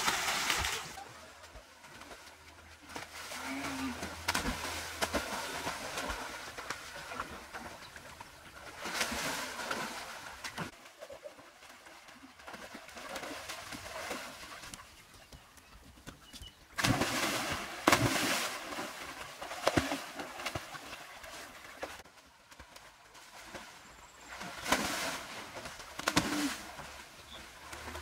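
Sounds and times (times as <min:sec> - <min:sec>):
pool water sloshing and splashing: 0:00.0 - 0:14.8, 0:16.8 - 0:28.0.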